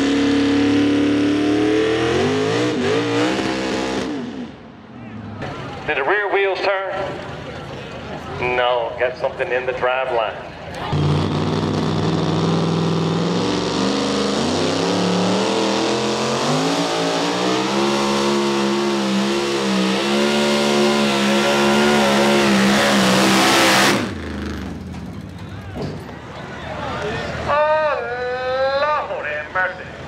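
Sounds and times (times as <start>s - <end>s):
truck engine running at high revs: 0.0s - 26.2s.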